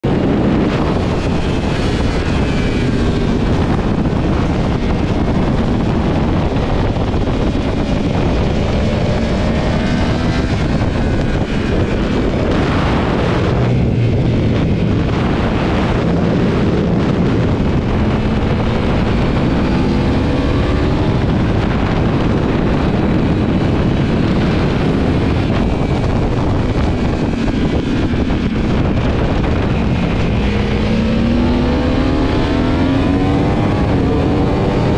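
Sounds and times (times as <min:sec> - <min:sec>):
motorcycle engine accelerating: 0:00.0 - 0:34.9
wind buffeting microphone: 0:00.0 - 0:34.9.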